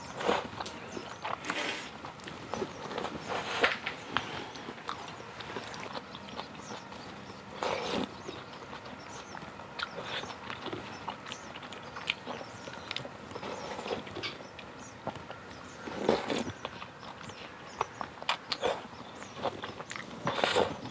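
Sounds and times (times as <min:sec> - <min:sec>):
wet chewing with clicks: 0:00.0 - 0:20.9.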